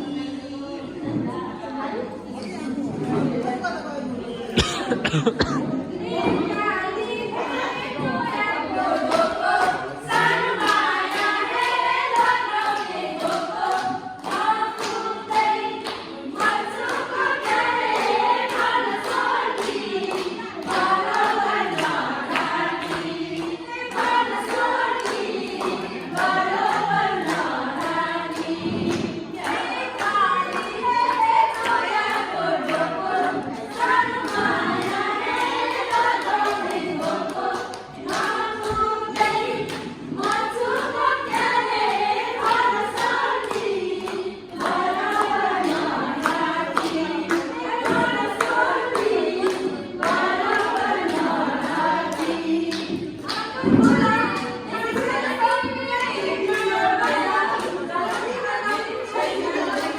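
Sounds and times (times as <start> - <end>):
group singing unaccompanied: 0.0 - 2.2, 4.6 - 59.9.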